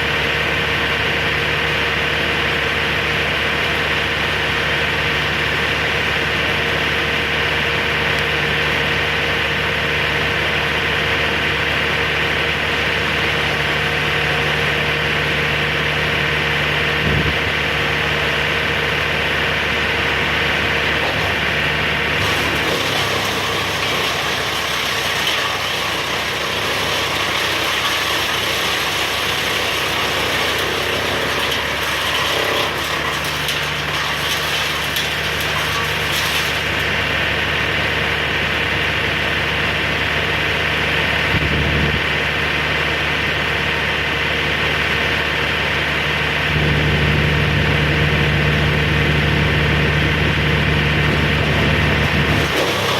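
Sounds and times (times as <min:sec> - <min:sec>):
engine deep hum: 0:00.0 - 0:52.9
higher rough engine sound: 0:00.0 - 0:52.9.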